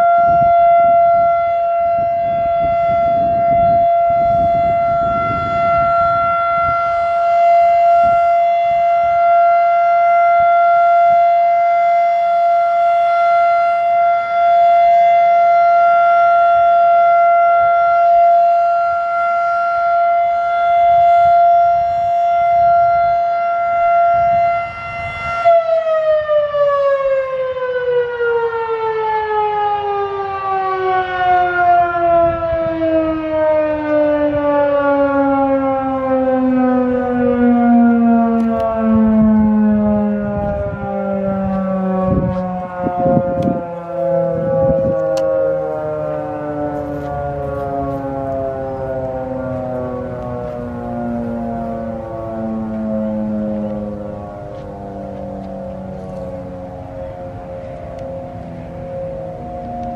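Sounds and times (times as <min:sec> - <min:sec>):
electromechanical siren: 0:00.0 - 0:59.9.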